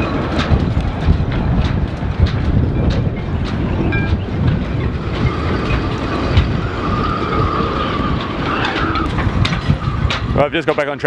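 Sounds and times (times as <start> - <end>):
high wind whistle: 0.0 - 11.0
knocks and rattles: 0.0 - 11.0
wind buffeting microphone: 0.0 - 11.0.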